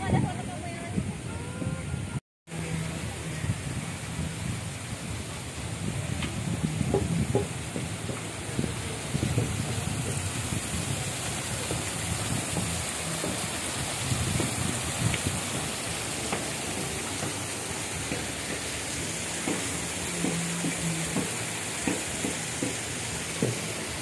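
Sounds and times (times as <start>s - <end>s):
waterfall splashing over rocks: 2.5s - 24.0s.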